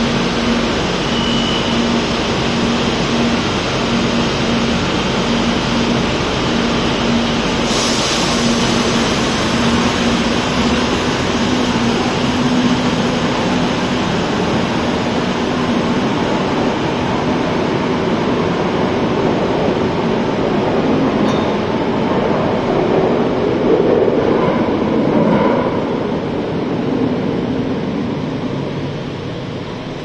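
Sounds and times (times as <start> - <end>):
train low hum: 0.0 - 30.0.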